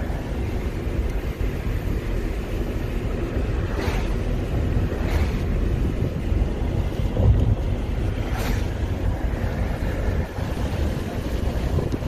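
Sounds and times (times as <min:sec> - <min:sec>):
car road and wind noise: 0:00.0 - 0:12.0
vehicles whooshing past: 0:00.0 - 0:12.0.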